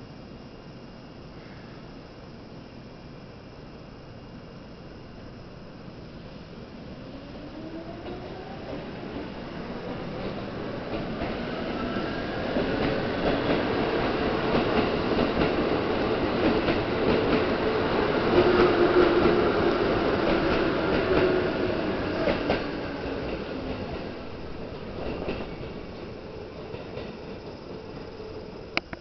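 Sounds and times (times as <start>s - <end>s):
electric train passing: 3.4s - 29.0s.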